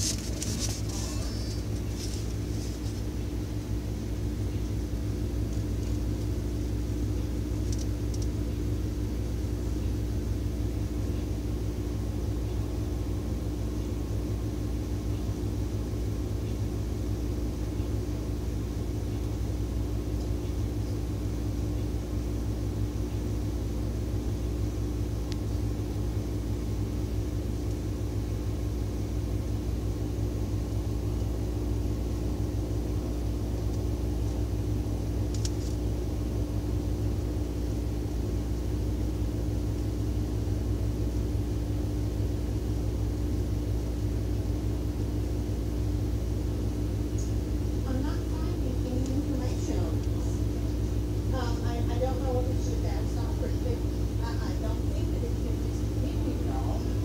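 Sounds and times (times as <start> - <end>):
constant hum: 0.0 - 57.0.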